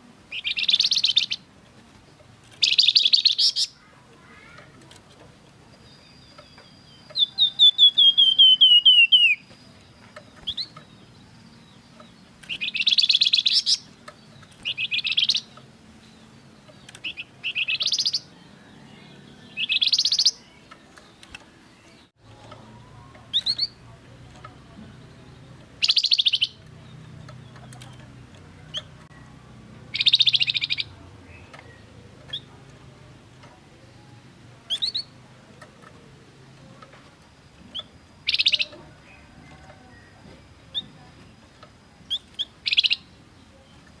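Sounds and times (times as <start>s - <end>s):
songbird singing trilled phrases: 0.3s - 1.5s, 2.2s - 44.0s.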